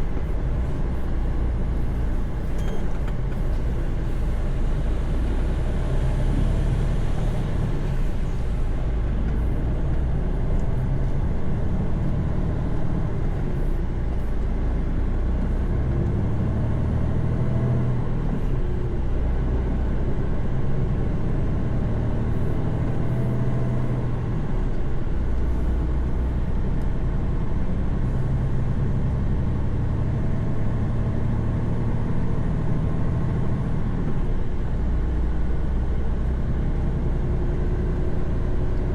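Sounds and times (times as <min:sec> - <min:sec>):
road and tyre noise: 0:00.0 - 0:38.9
truck engine drone: 0:00.0 - 0:38.9.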